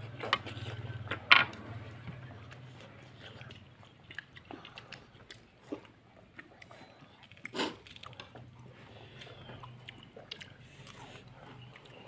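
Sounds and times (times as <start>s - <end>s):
chewing noodles: 0.0s - 12.0s.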